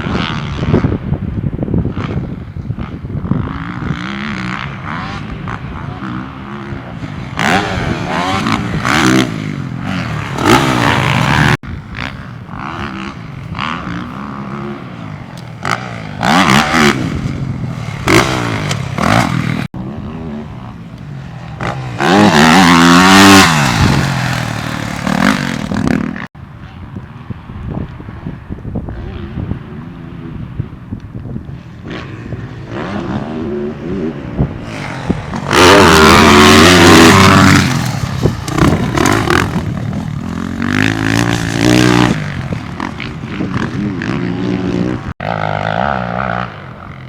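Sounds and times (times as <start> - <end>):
motorcycle engine revving: 0.0 - 26.4, 31.8 - 47.0.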